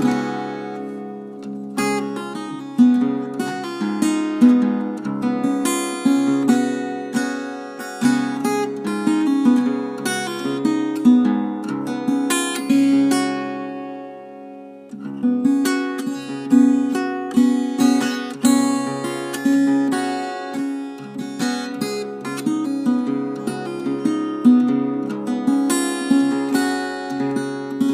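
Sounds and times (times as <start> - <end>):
strummed acoustic guitar: 0.0 - 27.9.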